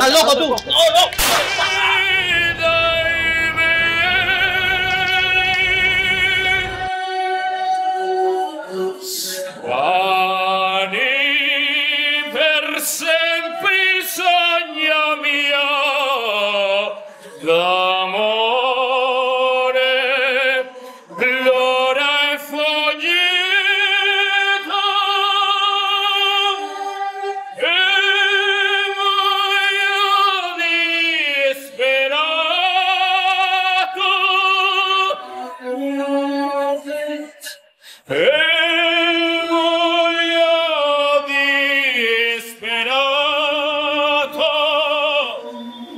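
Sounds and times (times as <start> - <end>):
person singing operatically: 0.0 - 45.9.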